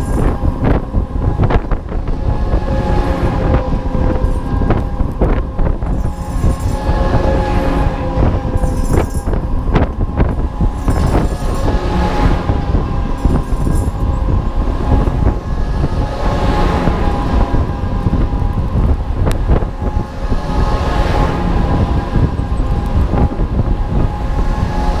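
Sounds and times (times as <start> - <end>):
ride mechanical rumble: 0.0 - 25.0
steady mechanical whine: 0.0 - 25.0
wind noise on microphone: 0.0 - 25.0.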